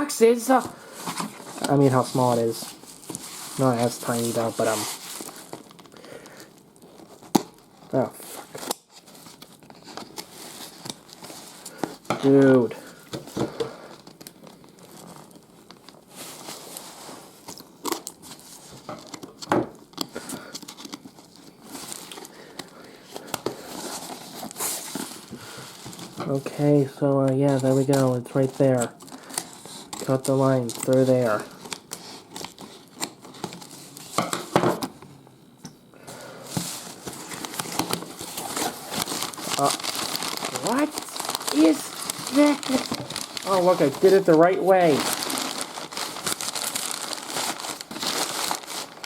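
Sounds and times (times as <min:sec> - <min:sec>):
packaging crinkling and tearing: 0:00.0 - 0:34.3, 0:36.5 - 0:49.0
plastic and cardboard rustling: 0:00.0 - 0:35.0, 0:36.4 - 0:49.0.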